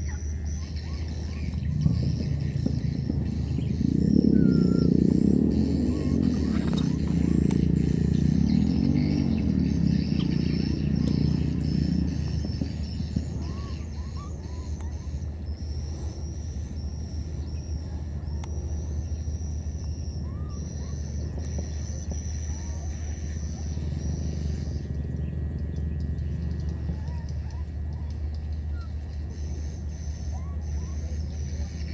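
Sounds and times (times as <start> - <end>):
low hum: 0.0 - 31.9
motor droning: 0.0 - 31.9.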